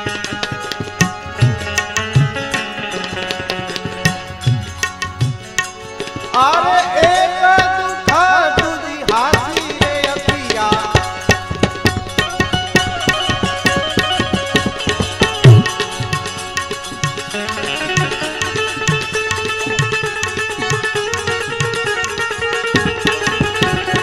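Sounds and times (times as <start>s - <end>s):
harmonium held tones: 0.0s - 24.0s
tabla playing a quick rhythm: 0.0s - 24.0s.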